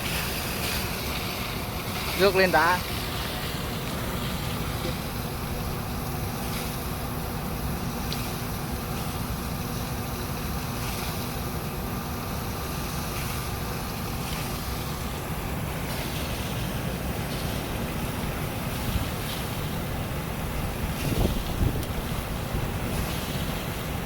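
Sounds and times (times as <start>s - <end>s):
drilling rig engine running: 0.0s - 24.0s.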